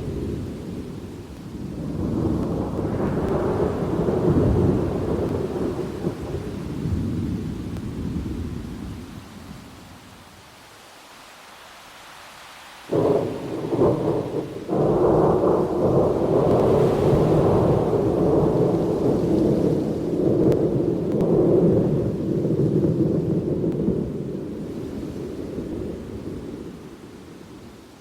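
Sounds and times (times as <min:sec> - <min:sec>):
thunder cracks and rumble: 0:00.0 - 0:09.0, 0:12.9 - 0:26.8
steady rain: 0:00.0 - 0:28.0.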